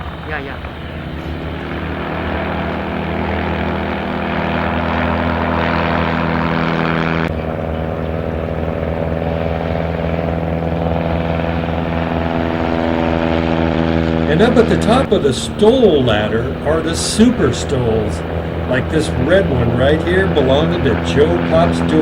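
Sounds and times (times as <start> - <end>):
light plane piston engine drone: 0.0 - 22.0.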